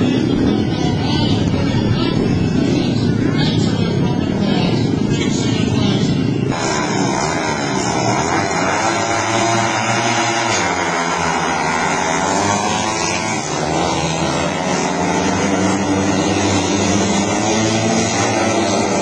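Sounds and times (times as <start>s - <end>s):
motorcycle engines revving hard: 0.0s - 19.0s.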